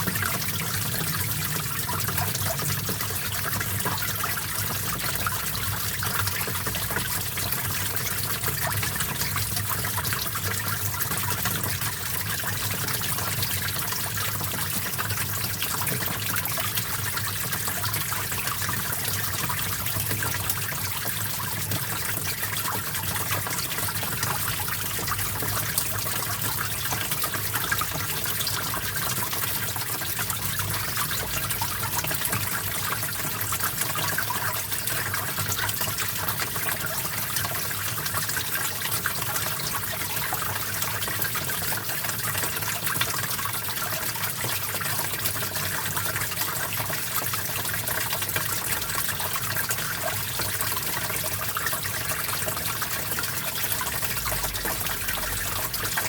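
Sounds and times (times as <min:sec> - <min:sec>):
stream trickling and splashing: 0:00.0 - 0:56.0.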